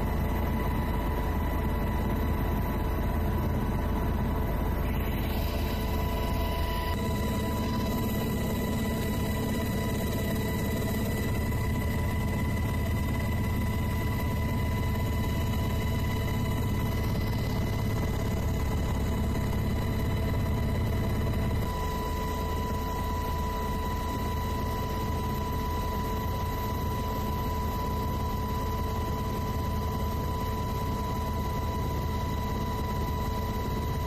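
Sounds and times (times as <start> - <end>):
high engine whine: 0.0 - 34.0.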